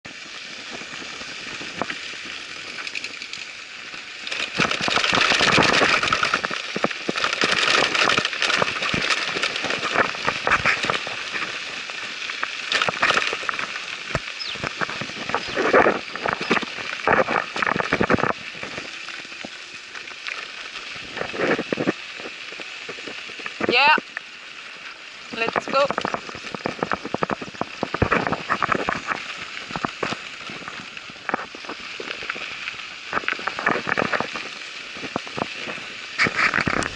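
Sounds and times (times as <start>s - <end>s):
scooter tyres rattling on dirt: 0.1s - 36.9s.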